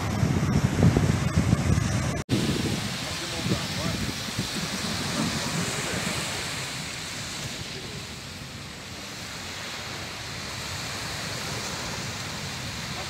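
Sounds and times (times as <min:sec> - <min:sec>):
small waves washing onto sand: 0:00.0 - 0:13.0
wind on microphone: 0:00.0 - 0:13.0.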